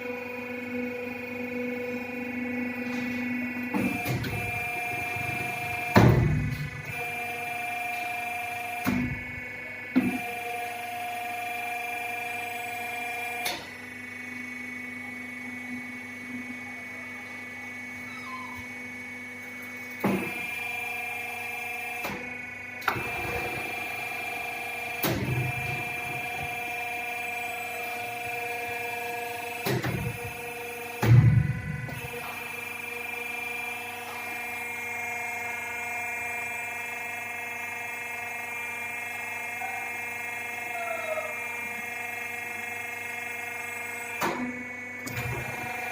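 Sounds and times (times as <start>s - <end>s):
pipe bending machine whine: 0.0s - 45.9s.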